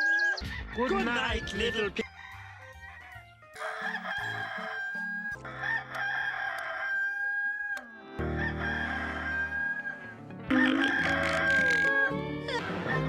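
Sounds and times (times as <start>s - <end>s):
rooster crowing: 0.0s - 13.0s.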